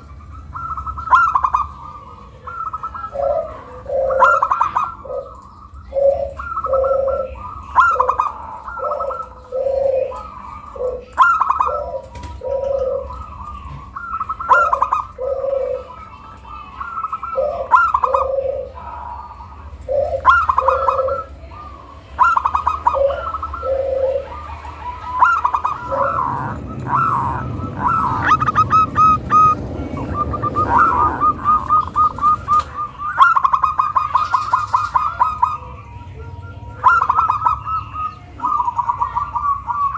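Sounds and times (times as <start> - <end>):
dove cooing: 0.0 - 39.9
low rumbling background noise: 0.0 - 39.9.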